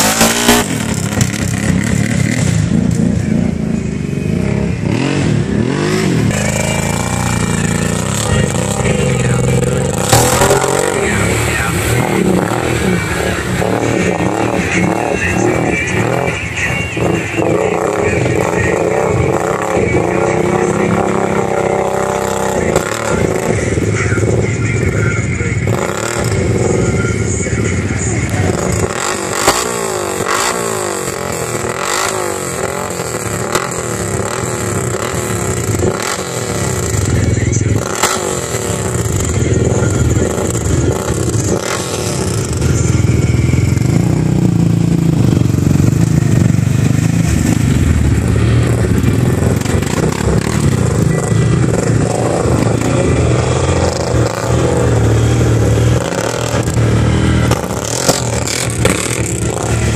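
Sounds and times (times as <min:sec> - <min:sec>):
off-road vehicle engines revving: 0:00.0 - 0:59.9
vehicles churning through muddy water: 0:00.0 - 0:59.9.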